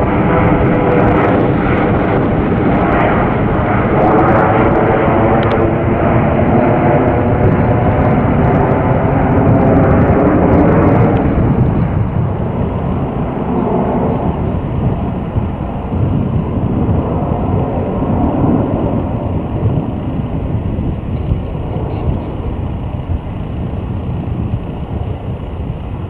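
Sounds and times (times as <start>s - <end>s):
jet engines rumbling and whining: 0.0s - 26.0s.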